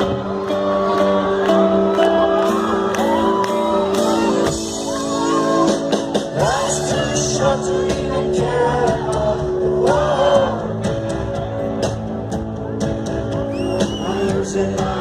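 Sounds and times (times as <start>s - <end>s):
concert crowd shouting and whooping: 0.0s - 15.0s
live rock band playing: 0.0s - 15.0s.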